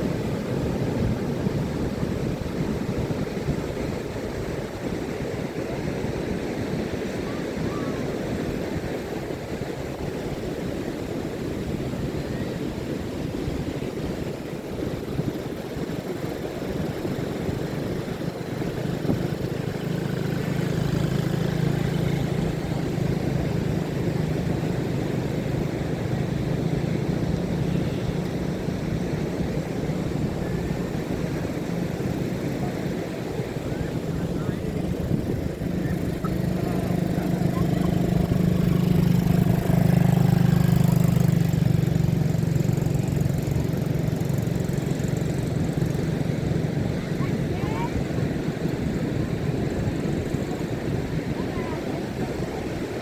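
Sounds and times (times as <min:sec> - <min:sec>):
low engine hum: 0:00.0 - 0:53.0
waves washing on beach: 0:00.0 - 0:53.0
wind: 0:00.0 - 0:53.0.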